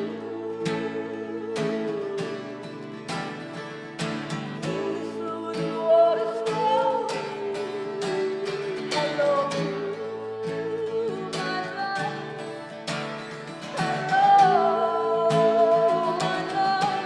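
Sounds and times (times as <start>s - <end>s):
acoustic guitars strummed: 0.0s - 17.0s
wordless singing: 0.0s - 17.0s.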